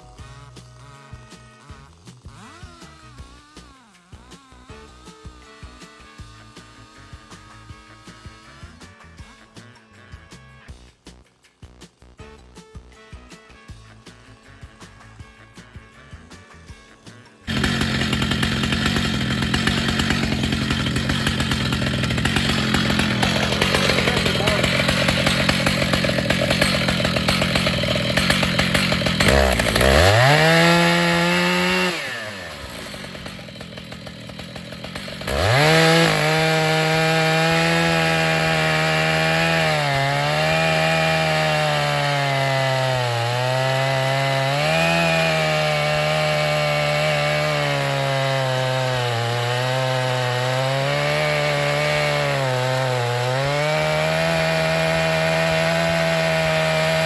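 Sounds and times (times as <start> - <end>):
chainsaw revving and cutting wood: 0.0 - 57.0.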